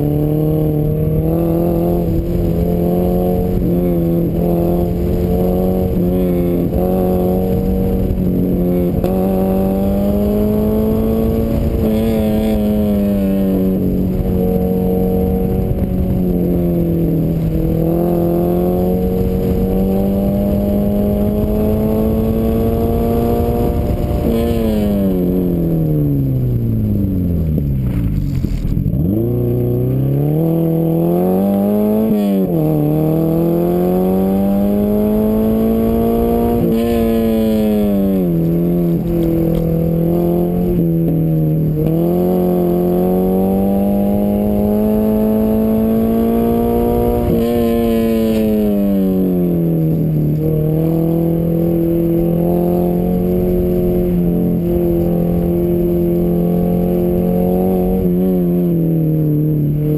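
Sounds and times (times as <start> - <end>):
car engine revving hard: 0.0 - 25.5, 28.9 - 49.6, 50.3 - 58.8.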